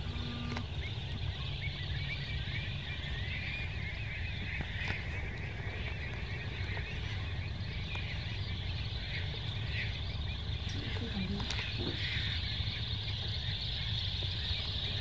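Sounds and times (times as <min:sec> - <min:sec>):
shorebirds chirping: 0:00.0 - 0:15.0
steady low rumble: 0:00.0 - 0:15.0.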